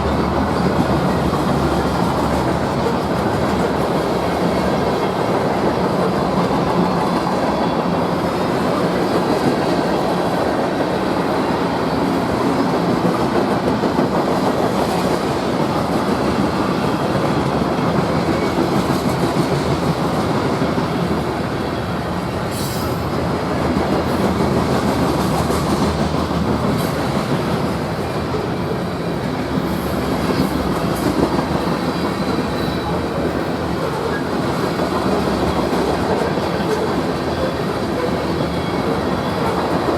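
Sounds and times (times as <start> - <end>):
train wheels clattering on track: 0.0 - 39.9.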